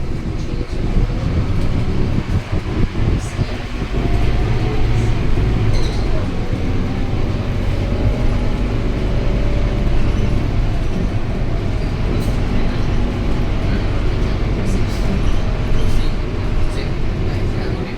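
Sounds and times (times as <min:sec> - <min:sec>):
bus engine humming: 0:00.0 - 0:17.9.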